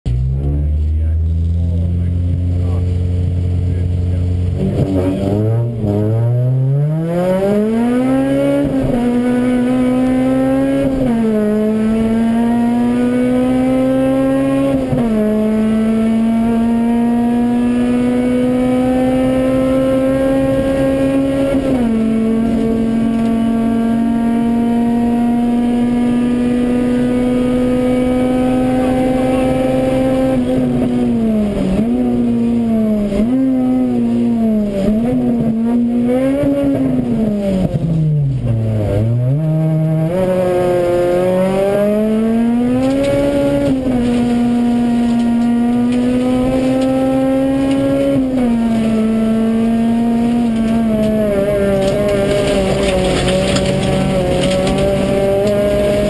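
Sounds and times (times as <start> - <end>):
car engine at full throttle: 0.0 - 56.0.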